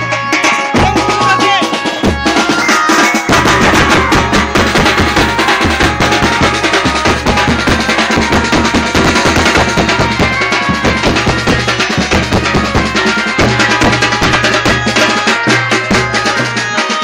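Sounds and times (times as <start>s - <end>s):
band melody line: 0.0s - 17.0s
heavy bass drum beats: 0.0s - 17.0s.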